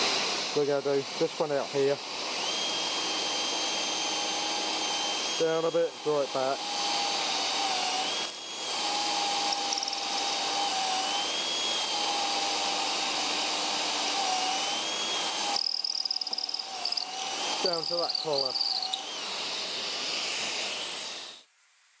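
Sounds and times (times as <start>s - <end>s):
cordless drill boring into wood: 0.0s - 21.4s.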